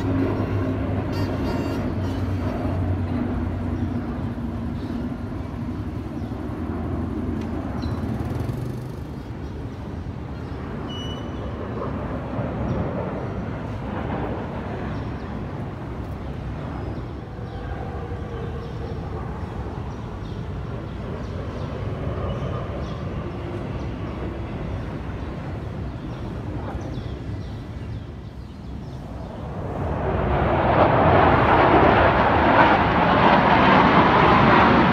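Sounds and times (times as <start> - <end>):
distant fighter jets rumble: 0.0 - 34.9.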